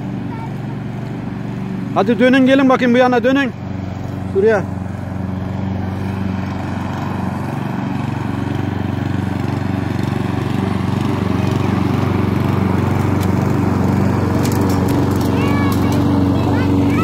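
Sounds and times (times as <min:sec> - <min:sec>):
lawn mower running: 0:00.0 - 0:17.0.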